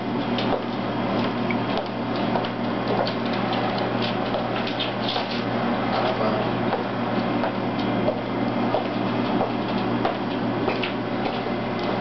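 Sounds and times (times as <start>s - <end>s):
low room hum: 0.0s - 12.0s
footsteps on wooden floor: 0.2s - 12.0s.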